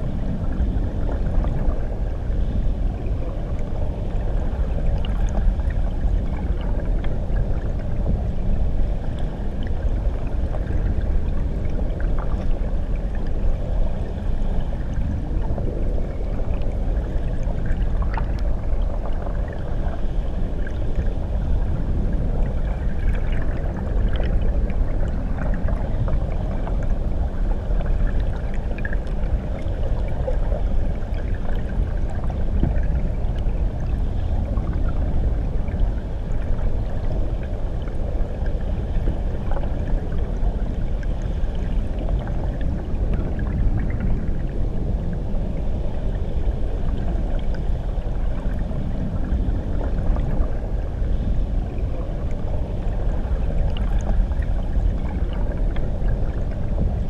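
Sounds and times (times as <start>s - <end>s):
muffled underwater waterfall rumble: 0.0s - 57.0s.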